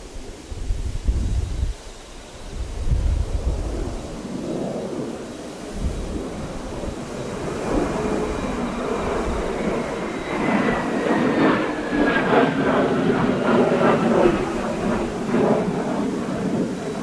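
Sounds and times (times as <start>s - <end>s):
jet engine whine: 0.0s - 17.0s
jet rushing roar: 0.0s - 17.0s.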